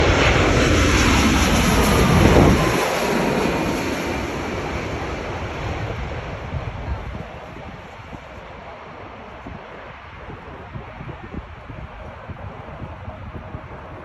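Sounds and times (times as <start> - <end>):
jet airliner passing: 0.0 - 14.0.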